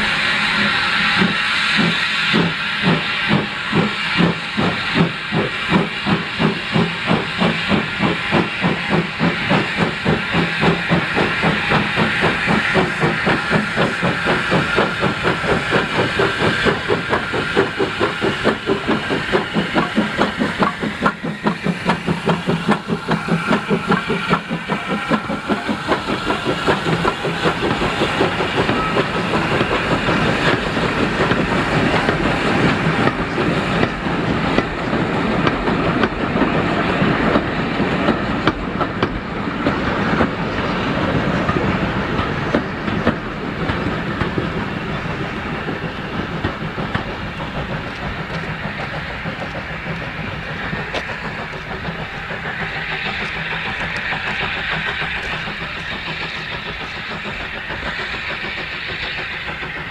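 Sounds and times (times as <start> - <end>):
steam locomotive exhaust beat: 0.0 - 59.9
train wheels clicking over rail joints: 0.0 - 59.9.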